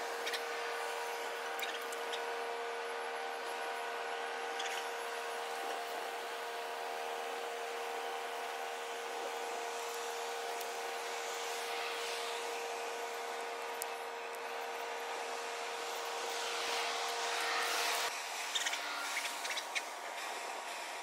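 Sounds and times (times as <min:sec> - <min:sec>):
ship machinery humming and whining: 0:00.0 - 0:21.0.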